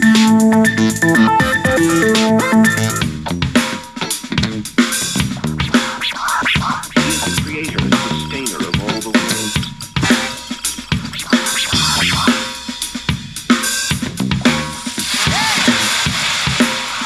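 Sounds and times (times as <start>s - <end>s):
music with drum beat and bass: 0.0s - 17.0s.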